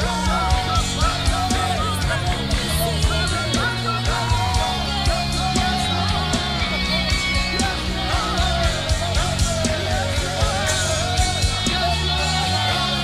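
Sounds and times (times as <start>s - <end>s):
drum beat: 0.0s - 13.0s
person singing: 0.0s - 13.0s
sustained bass notes: 0.0s - 13.0s.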